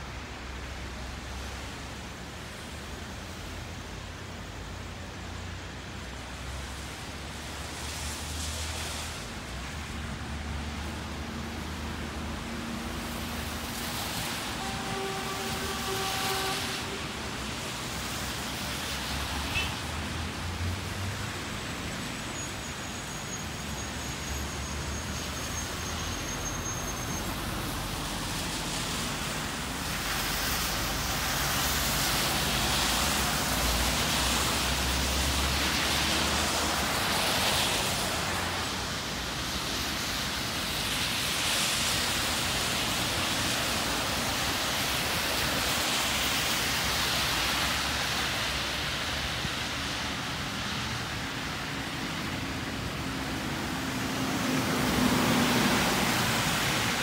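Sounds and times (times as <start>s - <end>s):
car tyres hissing on wet road: 0.0s - 57.0s
heavy rain on pavement: 0.0s - 57.0s.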